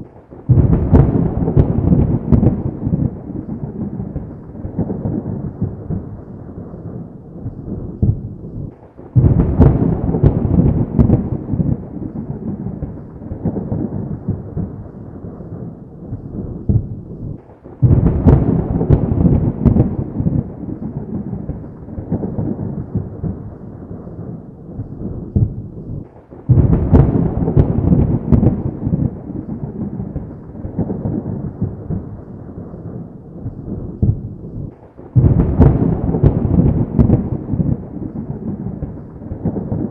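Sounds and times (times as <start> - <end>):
thunder claps and rumble: 0.0 - 39.9.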